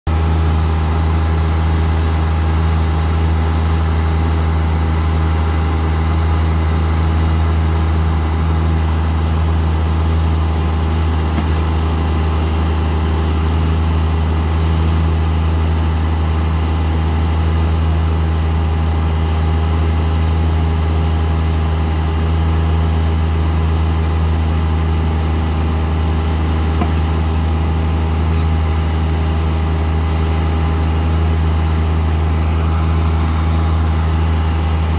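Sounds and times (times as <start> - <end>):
diesel tractor engine droning: 0.1 - 34.9.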